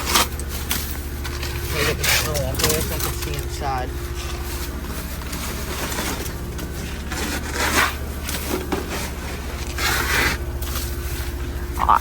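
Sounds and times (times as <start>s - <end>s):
rustling scrape: 0.0s - 11.4s
heat pump units humming: 0.0s - 12.0s.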